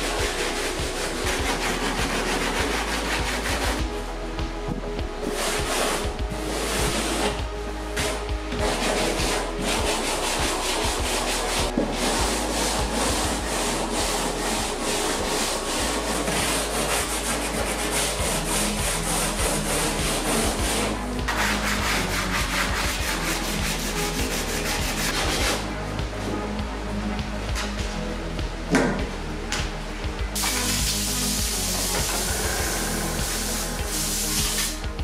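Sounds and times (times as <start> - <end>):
sandpaper scratching on panel: 0.0 - 3.8, 5.2 - 7.4, 8.0 - 25.6, 30.4 - 34.8.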